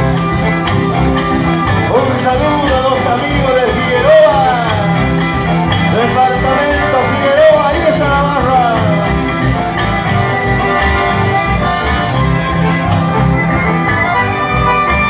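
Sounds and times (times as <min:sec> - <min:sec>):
accordion: 0:00.0 - 0:15.0
guitar: 0:00.0 - 0:15.0.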